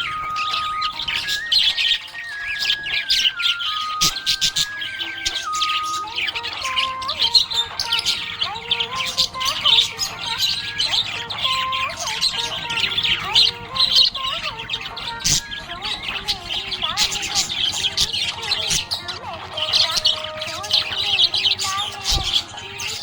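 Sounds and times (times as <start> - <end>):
budgies chirping: 0.0 - 23.0.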